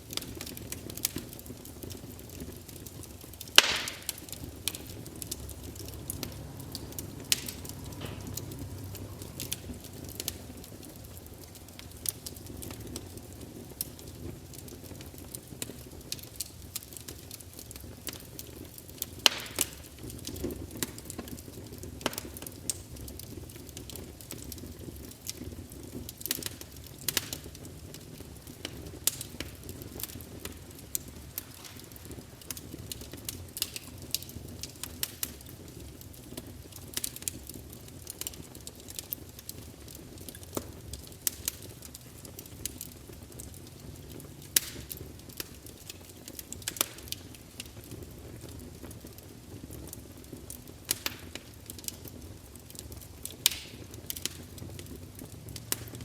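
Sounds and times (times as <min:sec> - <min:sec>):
burning wood crackling and popping: 0:00.0 - 0:56.0
flames rumbling: 0:00.0 - 0:56.0.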